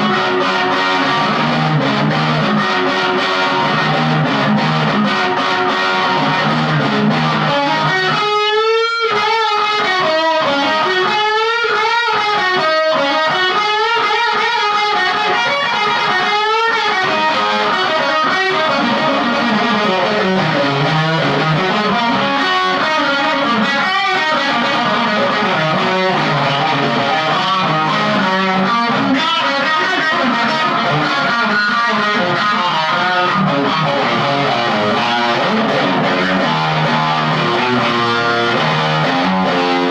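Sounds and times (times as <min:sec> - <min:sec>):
distorted electric guitar lead: 0:00.0 - 0:39.9.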